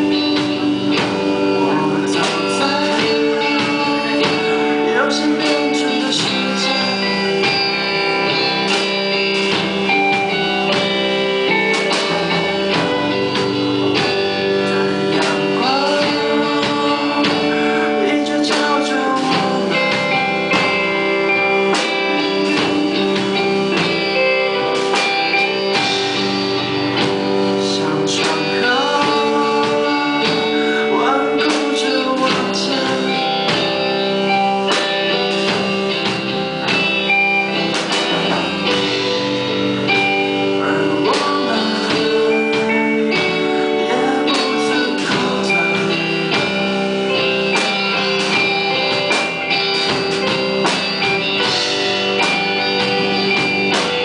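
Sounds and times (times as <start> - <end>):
live rock band: 0.0 - 54.0
person singing: 0.0 - 54.0.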